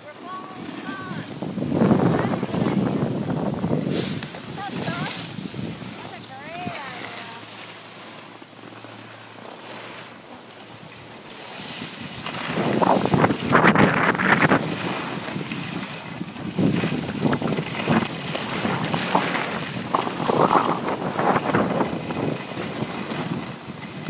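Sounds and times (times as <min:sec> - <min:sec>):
wind rushing over microphone: 0:00.0 - 0:09.1, 0:10.1 - 0:24.0
skis scraping across snow: 0:00.0 - 0:24.0.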